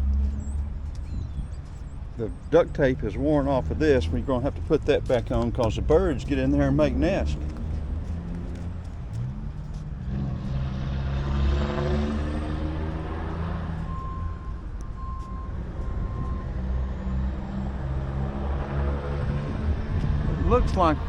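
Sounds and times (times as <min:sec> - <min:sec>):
low engine hum: 0:00.0 - 0:21.0
traffic passing: 0:00.0 - 0:21.0.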